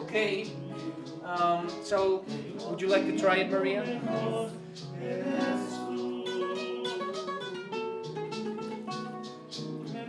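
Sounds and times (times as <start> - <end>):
latin acoustic guitar music: 0.0 - 10.0.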